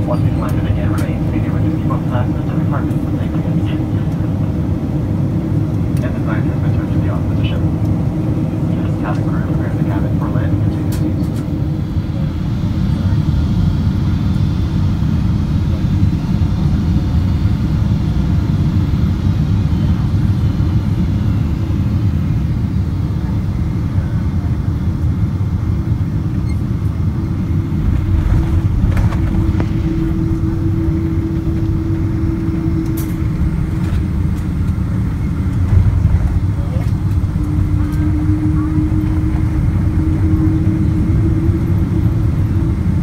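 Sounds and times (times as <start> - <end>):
airliner cabin engine rumble: 0.0 - 43.0
low hum: 0.0 - 43.0.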